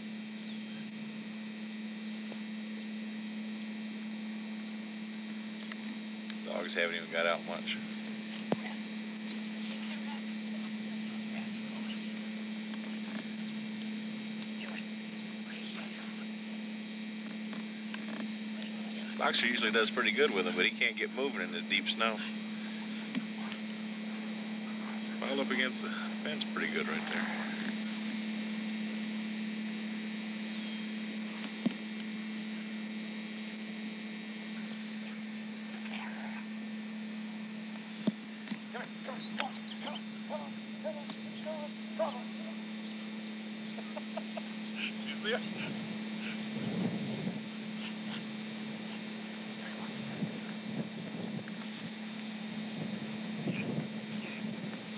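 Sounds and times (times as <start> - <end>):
low hum: 0.0 - 54.9.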